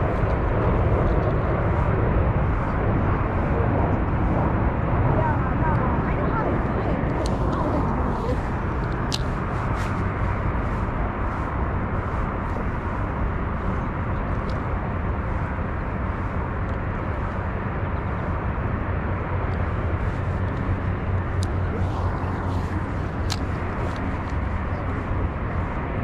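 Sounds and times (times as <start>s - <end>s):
outdoor rumble and hiss: 0.0s - 26.0s.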